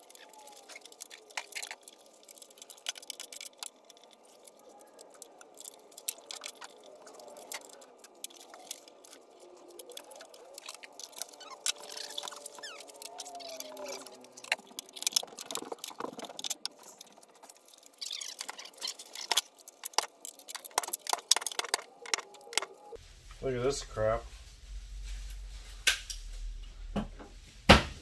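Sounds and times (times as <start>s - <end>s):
hand tools clicking and scraping: 0.0s - 23.0s.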